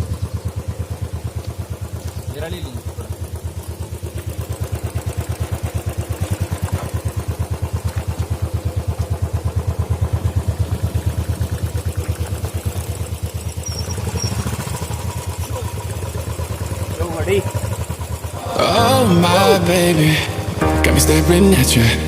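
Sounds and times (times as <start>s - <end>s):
motorcycle engine idling: 0.0s - 20.6s.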